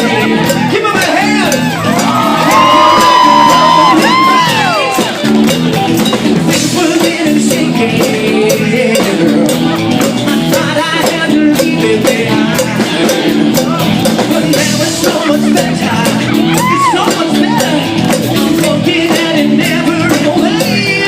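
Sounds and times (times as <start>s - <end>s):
person singing: 0.0s - 5.4s, 6.5s - 21.0s
drum beat: 0.0s - 21.0s
guitar: 0.0s - 21.0s.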